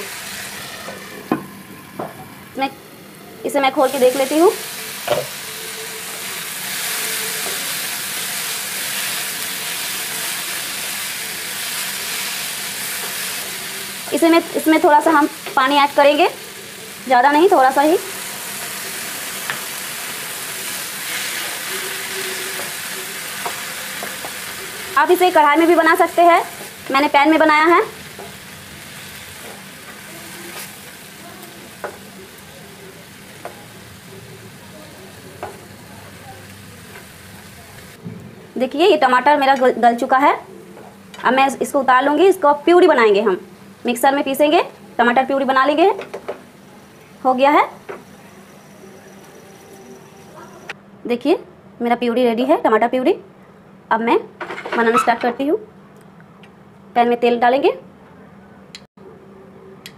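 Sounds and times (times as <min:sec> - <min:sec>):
vegetables sizzling in oil: 0:00.0 - 0:50.7.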